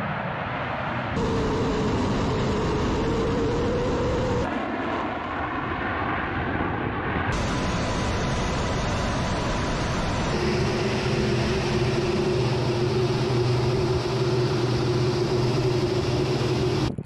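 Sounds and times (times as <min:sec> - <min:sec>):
jet engine whine: 0:00.0 - 0:17.0
jet engines roaring: 0:00.0 - 0:17.0.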